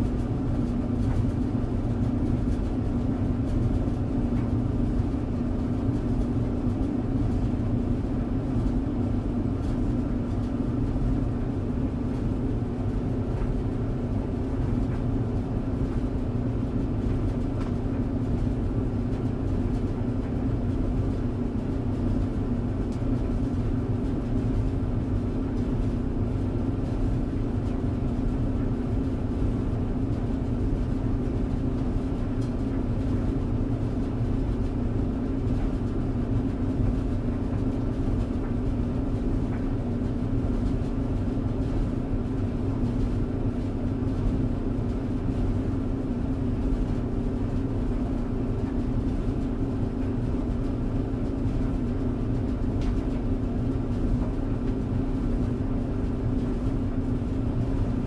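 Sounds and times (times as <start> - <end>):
clothes dryer humming: 0.0 - 58.0.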